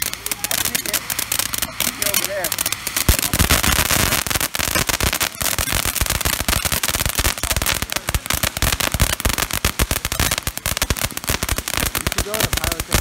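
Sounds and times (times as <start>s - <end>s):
firework fountain crackling: 0.0s - 13.0s.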